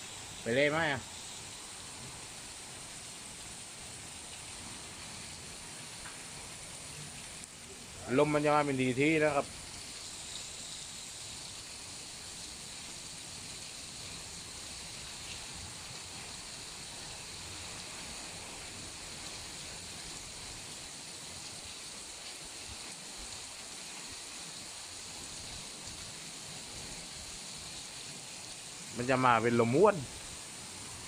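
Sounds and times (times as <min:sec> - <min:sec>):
storm rain and wind hiss: 0:00.0 - 0:31.0.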